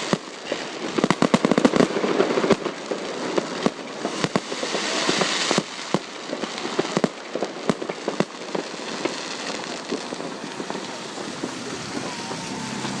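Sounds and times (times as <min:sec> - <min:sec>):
fireworks crackling hiss: 0:00.0 - 0:13.0
fireworks pops and bangs: 0:00.0 - 0:13.0.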